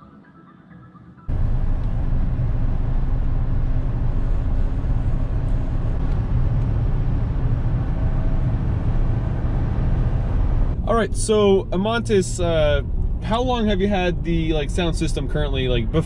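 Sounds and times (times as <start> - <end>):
road and tyre rumble in car: 1.3 - 16.0.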